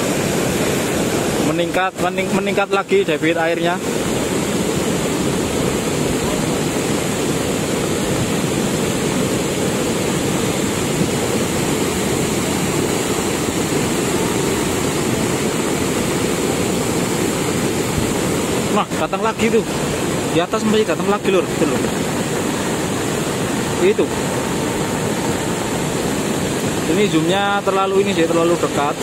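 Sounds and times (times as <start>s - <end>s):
muddy water rushing: 0.0s - 29.0s.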